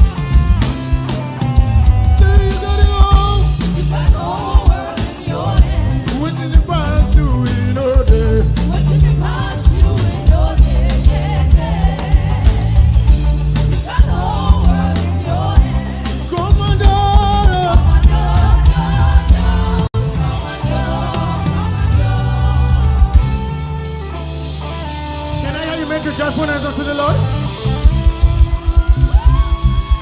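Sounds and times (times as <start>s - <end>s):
gospel song with live band: 0.0s - 30.0s
voices singing: 0.0s - 30.0s.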